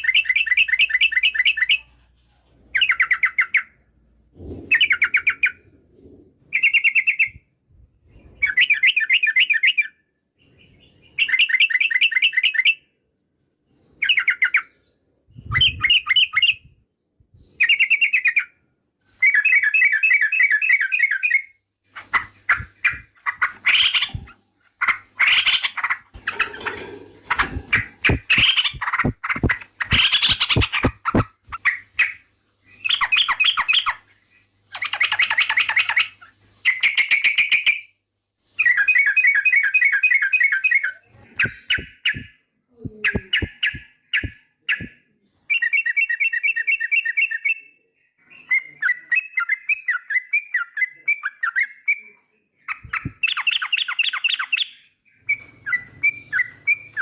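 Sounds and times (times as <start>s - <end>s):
bird chattering song: 0.0s - 7.5s, 8.1s - 13.0s, 13.7s - 18.6s, 19.2s - 38.0s, 38.6s - 57.0s.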